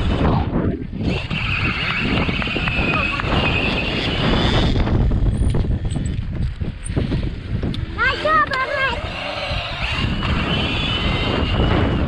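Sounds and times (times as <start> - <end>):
gusty wind on microphone: 0.0 - 12.0.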